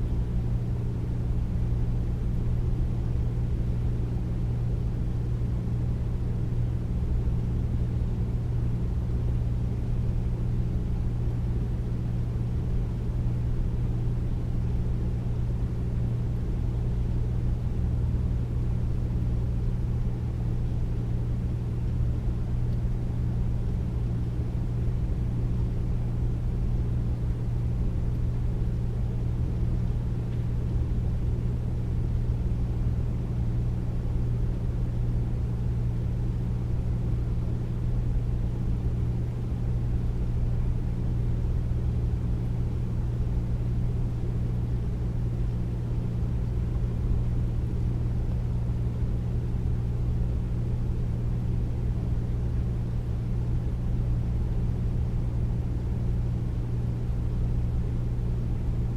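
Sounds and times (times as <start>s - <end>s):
air conditioner humming: 0.0s - 58.9s.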